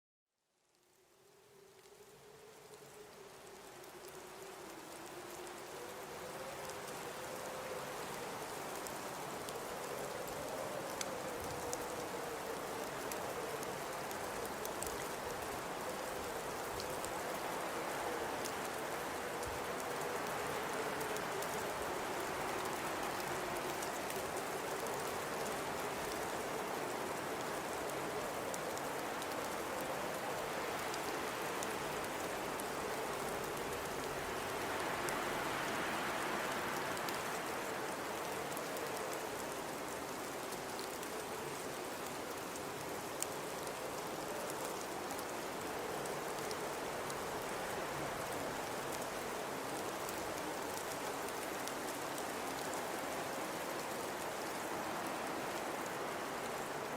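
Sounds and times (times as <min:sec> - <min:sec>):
faint low wind howl: 0:00.8 - 0:56.9.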